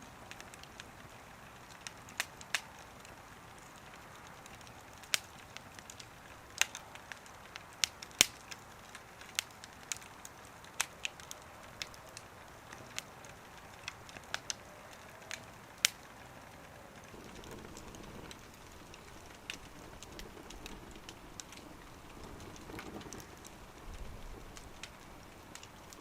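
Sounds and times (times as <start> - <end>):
faint steady hiss: 0.0 - 26.0
wood fire crackling: 0.0 - 26.0.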